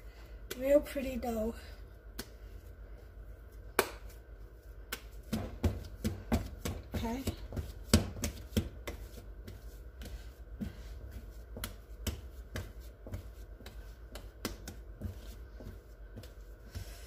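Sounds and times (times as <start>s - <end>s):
dough clicks and soft slaps: 1.8s - 17.0s.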